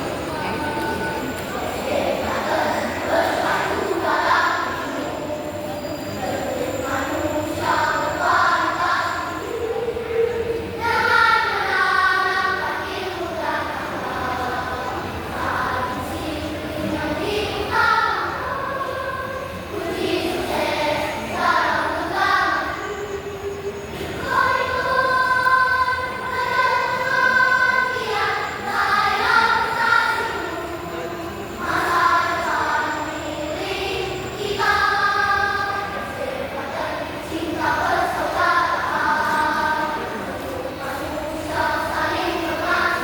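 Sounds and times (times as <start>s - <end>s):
children's choir singing: 0.0s - 43.0s.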